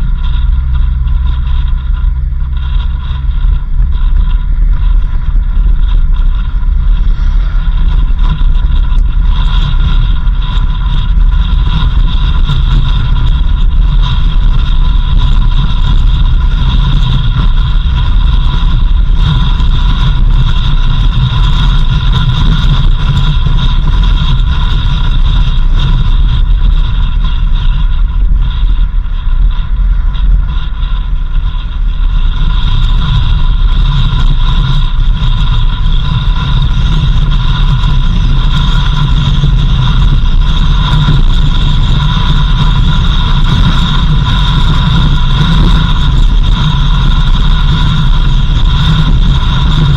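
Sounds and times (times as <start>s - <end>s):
high whine: 0.0s - 49.9s
road and wind rumble: 0.0s - 49.9s.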